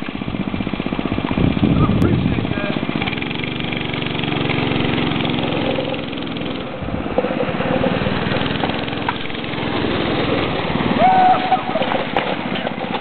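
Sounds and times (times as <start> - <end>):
go-kart engine running: 0.0 - 13.0.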